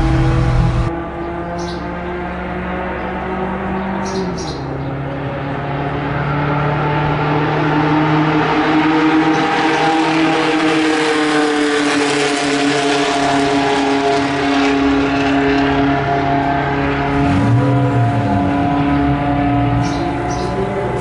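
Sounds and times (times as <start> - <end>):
race car engine at speed: 0.0 - 21.0.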